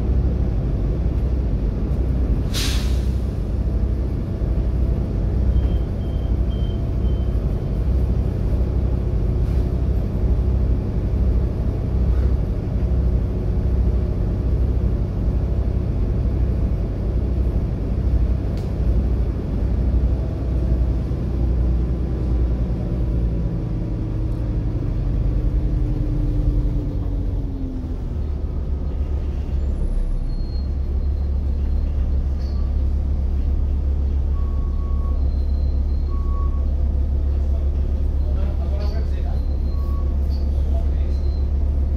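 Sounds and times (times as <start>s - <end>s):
bus diesel engine drone: 0.0s - 41.9s.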